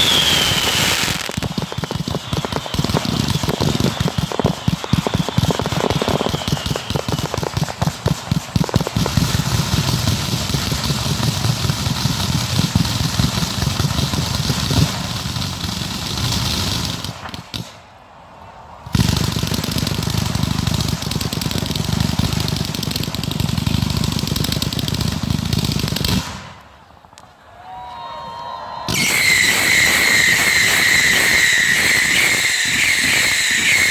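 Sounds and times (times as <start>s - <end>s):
fireworks banging and crackling: 0.0s - 17.9s, 18.8s - 26.8s, 28.9s - 33.9s.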